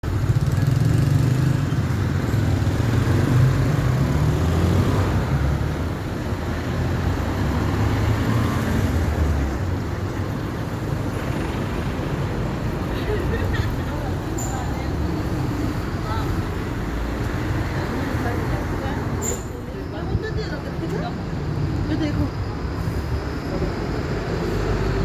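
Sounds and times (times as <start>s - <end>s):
bus diesel engines running: 0.0s - 25.0s.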